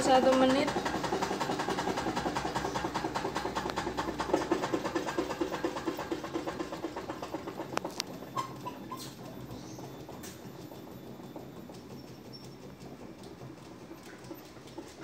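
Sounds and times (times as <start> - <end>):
fast rattling tick: 0.0 - 15.0
washing machine drum spinning: 0.0 - 15.0.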